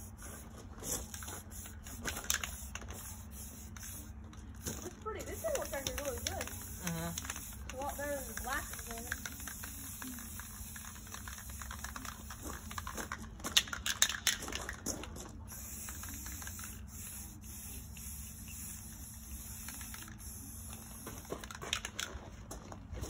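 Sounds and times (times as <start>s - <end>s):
spray paint can hissing: 0.0s - 14.8s, 15.5s - 22.1s
low background hum: 0.0s - 23.0s.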